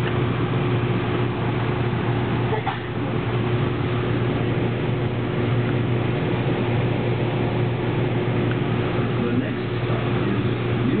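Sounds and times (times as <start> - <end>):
light-rail car low hum: 0.0 - 11.0.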